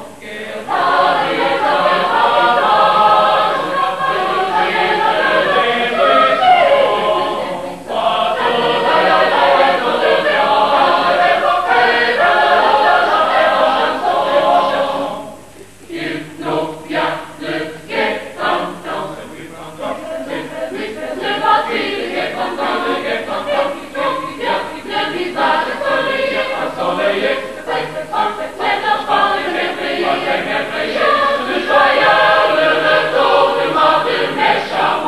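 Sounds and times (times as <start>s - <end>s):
mixed choir singing in harmony: 0.0s - 35.0s.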